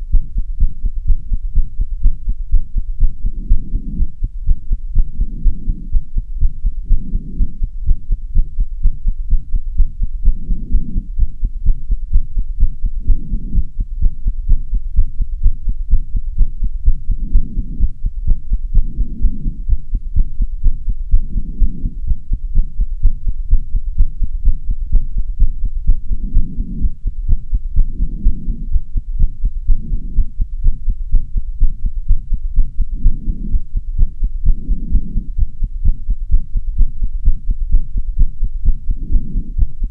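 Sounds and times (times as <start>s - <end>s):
fast human heartbeat: 0.0s - 39.9s.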